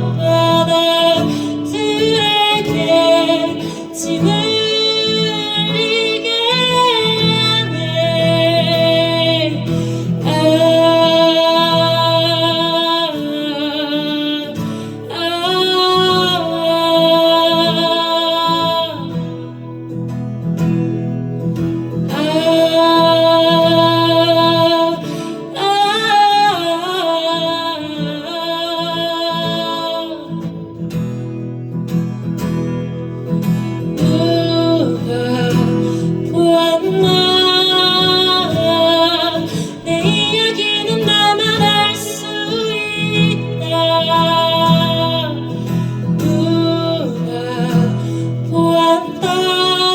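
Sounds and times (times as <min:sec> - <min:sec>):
person singing with vibrato: 0:00.0 - 0:20.0, 0:21.9 - 0:31.1, 0:33.3 - 0:49.9
guitar accompaniment: 0:00.0 - 0:49.9.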